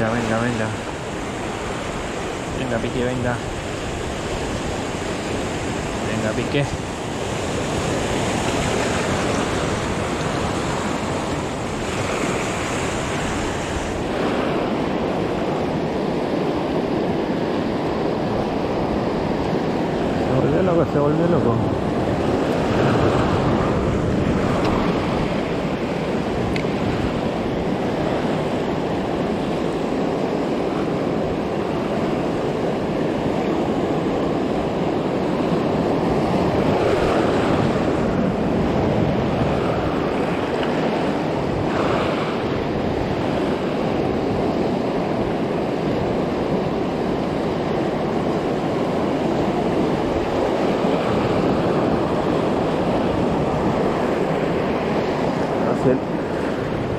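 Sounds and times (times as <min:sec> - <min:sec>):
ocean surf washing over rocks: 0:00.0 - 0:56.9.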